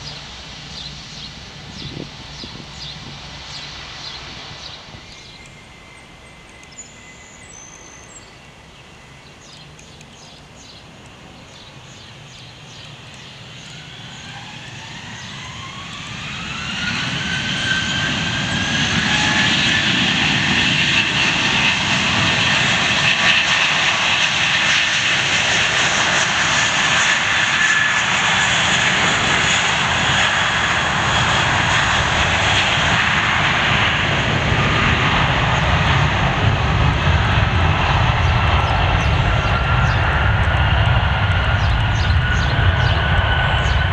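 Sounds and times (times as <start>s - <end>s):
jet engines spooling up: 0.0s - 43.9s.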